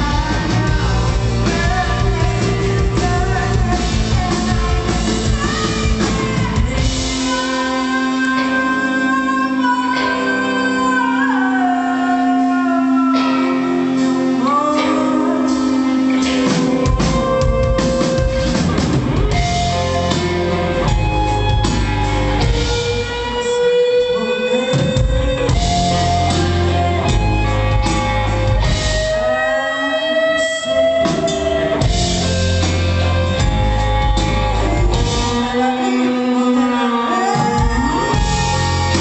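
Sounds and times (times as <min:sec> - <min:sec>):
drum kit: 0:00.0 - 0:09.9, 0:13.0 - 0:39.0
bass guitar: 0:00.0 - 0:39.0
electric guitar notes: 0:00.0 - 0:39.0.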